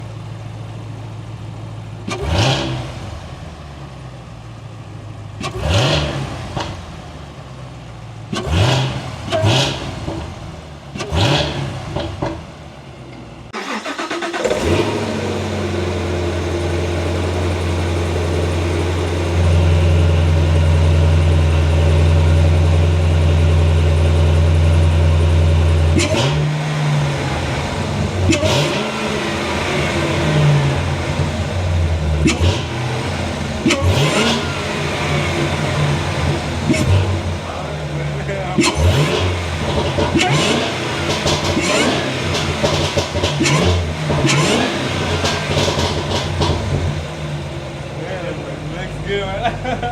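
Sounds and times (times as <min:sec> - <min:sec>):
car engine idling: 0:00.0 - 0:49.9
car engine revving: 0:02.0 - 0:04.2, 0:04.8 - 0:49.9.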